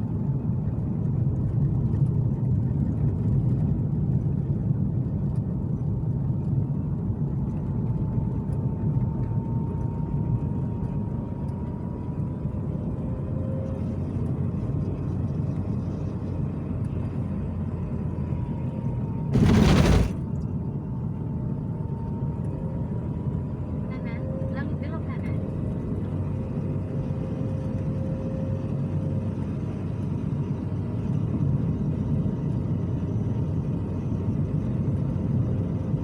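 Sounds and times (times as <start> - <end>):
car engine and road rumble: 0.1 - 35.9.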